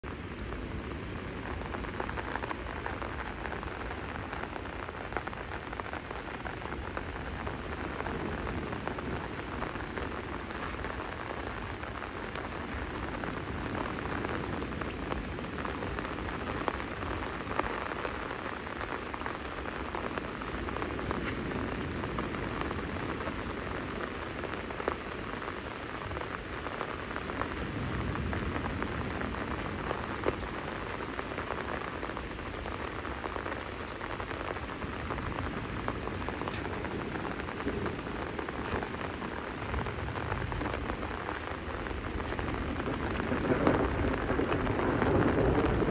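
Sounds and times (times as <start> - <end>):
rain splashing on ground: 0.0 - 45.9
sharp raindrop impacts: 0.0 - 45.9.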